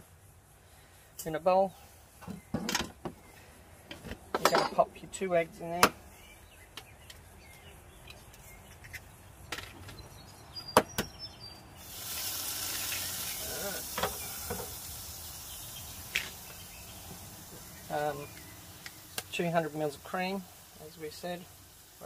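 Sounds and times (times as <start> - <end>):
steady hiss: 0.0 - 9.9, 11.7 - 22.0.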